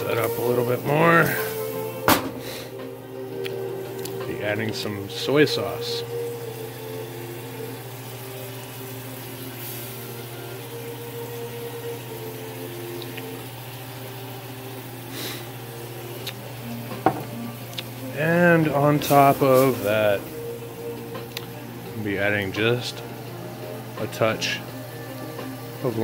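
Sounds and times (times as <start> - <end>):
food simmering in frying pan: 3.3 - 26.0.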